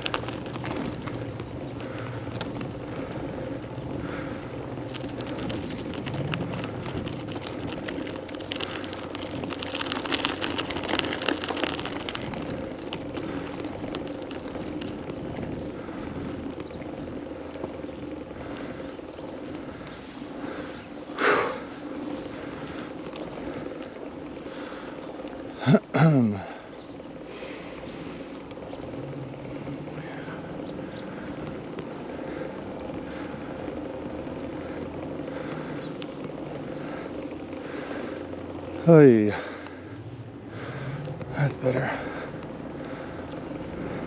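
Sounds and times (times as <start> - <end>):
bicycle drivetrain running: 0.0 - 44.0
bicycle tyres on road: 0.0 - 44.0.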